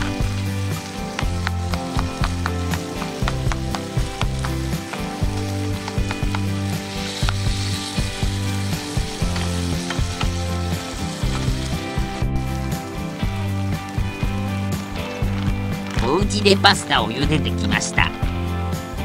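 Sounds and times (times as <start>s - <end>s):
food sizzling in a frying pan: 0.0s - 16.5s
background music with bass line: 0.0s - 19.0s.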